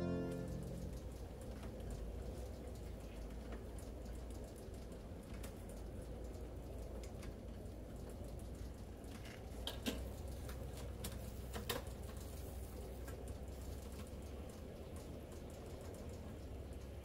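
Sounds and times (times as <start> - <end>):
light ticks and pops: 0.0 - 17.0
rotisserie grill humming: 0.0 - 17.0.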